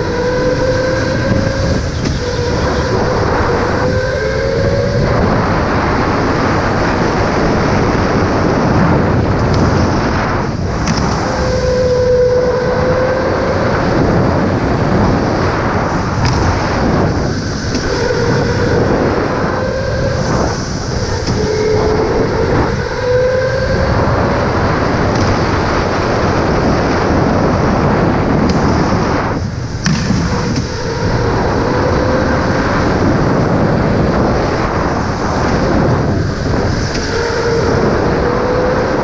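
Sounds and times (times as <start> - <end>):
go-kart motor and tyres rumbling: 0.0 - 39.0
wavering tyre squeal: 0.0 - 39.0.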